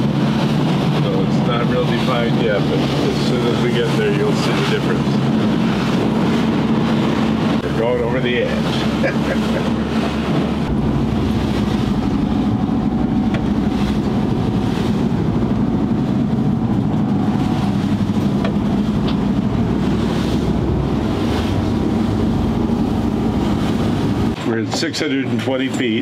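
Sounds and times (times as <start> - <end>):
boat engine running: 0.0 - 26.0
water rushing along hull: 0.0 - 26.0.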